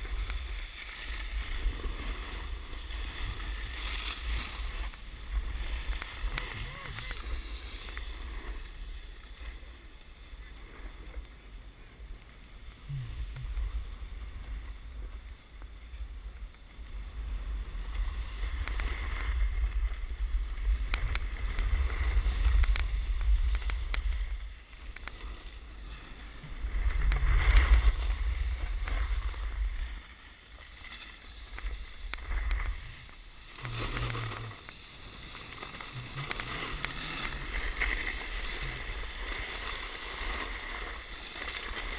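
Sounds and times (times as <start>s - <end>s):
snowboard sliding on snow: 0.0s - 41.9s.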